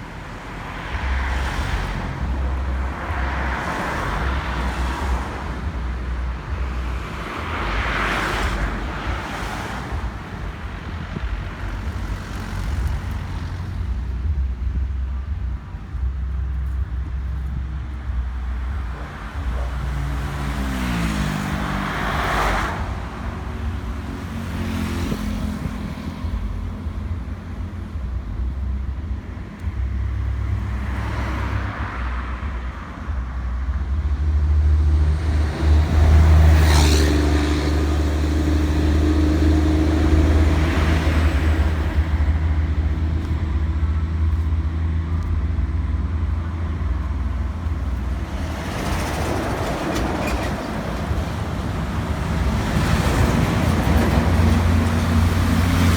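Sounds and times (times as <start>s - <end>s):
low traffic rumble: 0.0s - 55.9s
vehicles passing: 0.0s - 55.9s.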